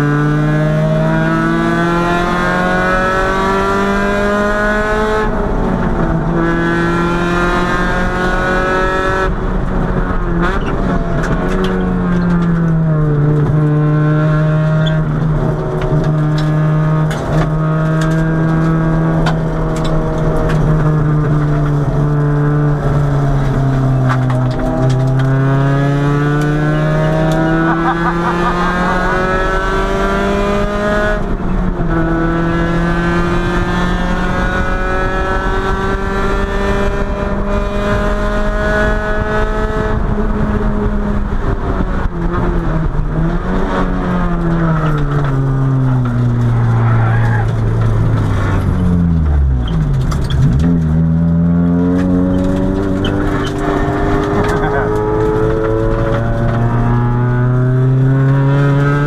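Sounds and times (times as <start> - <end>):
car engine under load: 0.0 - 59.0.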